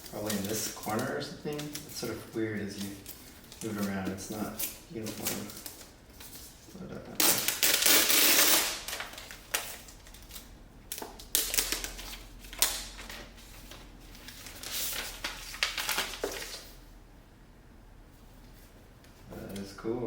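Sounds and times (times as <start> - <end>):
packaging rustling: 0.0 - 16.9.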